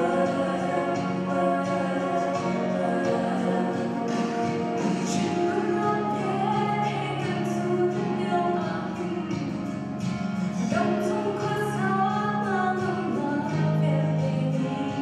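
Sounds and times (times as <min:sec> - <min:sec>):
female vocal trio singing: 0:00.0 - 0:09.6, 0:10.6 - 0:15.0
held instrumental backing notes: 0:00.0 - 0:15.0.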